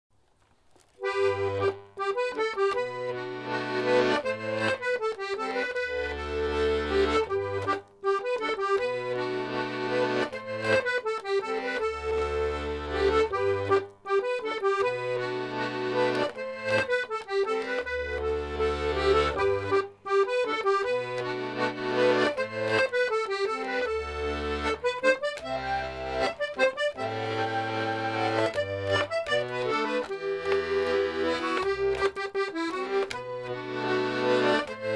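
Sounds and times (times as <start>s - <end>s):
button accordion playing a tune: 0.8s - 34.9s.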